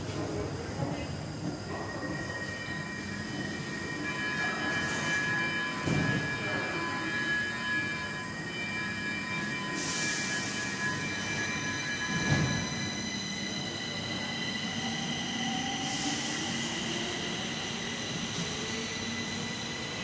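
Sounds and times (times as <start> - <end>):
train high-pitched whine: 0.0 - 20.0.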